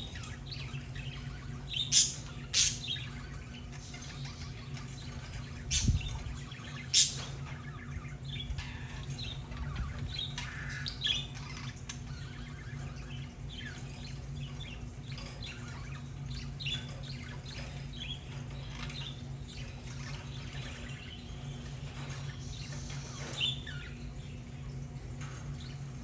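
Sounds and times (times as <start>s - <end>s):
budgerigars chirping: 0.0s - 24.4s
steady low hum: 0.0s - 26.0s.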